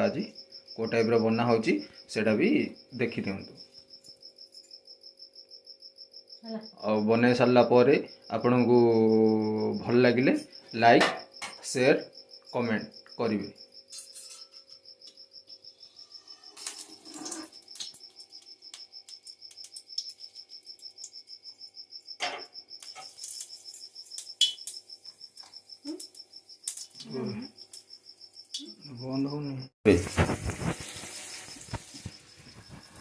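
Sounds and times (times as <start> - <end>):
cricket chirping: 0.0 - 33.0.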